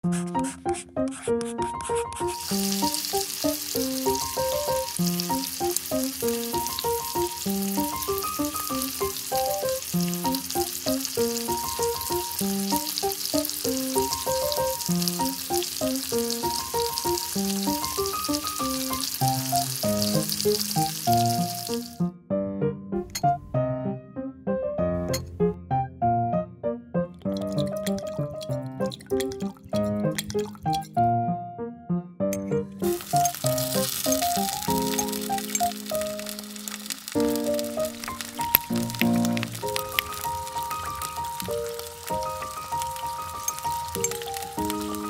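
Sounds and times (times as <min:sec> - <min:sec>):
gentle background music: 0:00.0 - 0:45.0
oil sizzling: 0:02.2 - 0:22.0, 0:27.2 - 0:31.0, 0:32.4 - 0:45.0.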